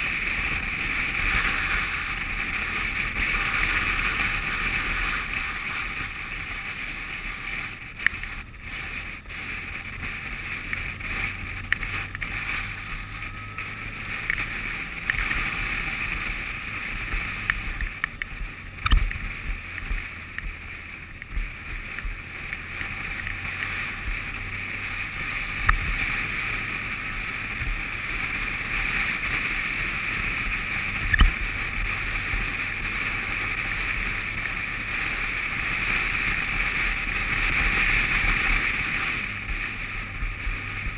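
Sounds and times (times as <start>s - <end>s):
motorcycle engine drone: 0.0s - 40.9s
wind and road noise: 0.0s - 40.9s.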